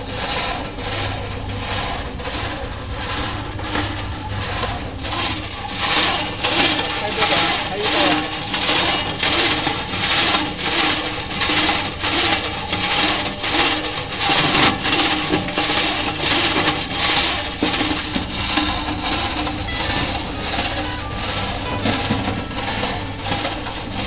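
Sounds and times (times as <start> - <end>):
granulator grinding swish: 0.0 - 24.0
low motor rumble: 0.0 - 24.0.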